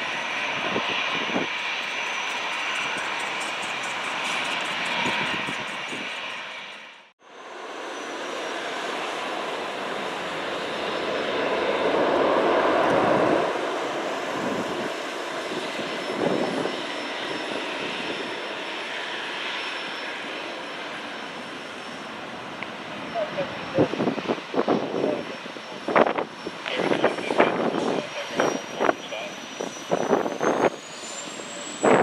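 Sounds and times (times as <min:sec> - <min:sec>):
jet engines rushing: 0:00.0 - 0:32.0.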